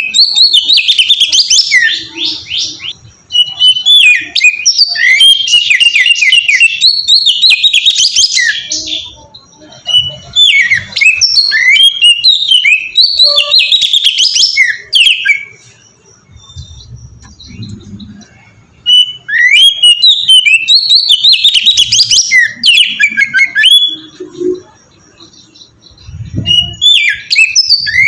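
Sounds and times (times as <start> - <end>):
bird singing whistles and chirps: 0.0 - 28.0.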